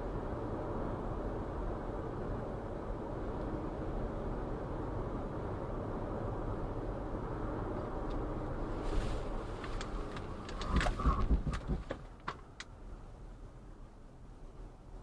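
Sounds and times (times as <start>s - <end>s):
vehicle road noise: 0.0s - 15.0s.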